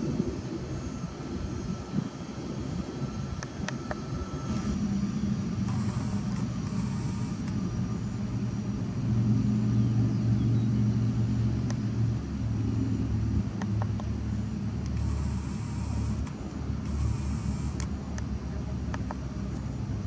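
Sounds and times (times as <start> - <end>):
faint high engine whine: 0.0 - 20.0
jet aircraft engines rumbling: 0.0 - 20.0.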